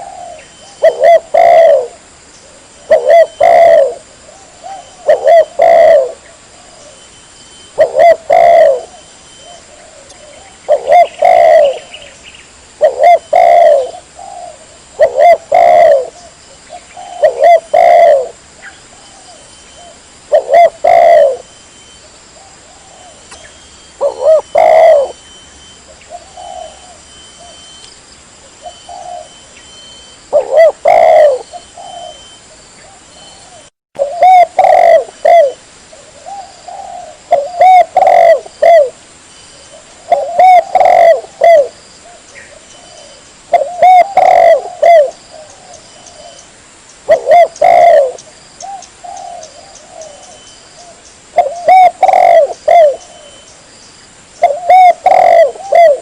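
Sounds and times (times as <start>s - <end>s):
dove cooing: 0.0s - 12.2s, 12.8s - 27.8s, 28.5s - 39.0s, 39.6s - 53.5s, 54.4s - 56.0s.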